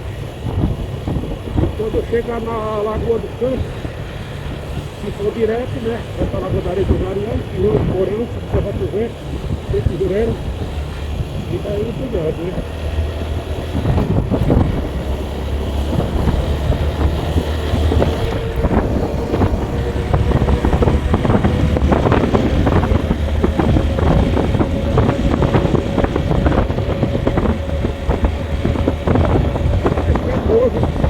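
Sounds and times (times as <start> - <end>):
vehicle engine hum: 0.0 - 31.0
wind buffeting microphone: 0.0 - 31.0.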